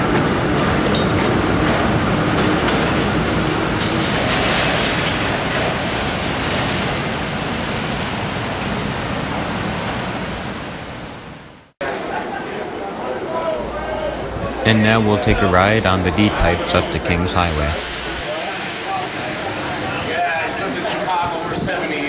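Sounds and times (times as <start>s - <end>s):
subway train wheels on track: 0.0s - 14.7s, 16.8s - 22.0s.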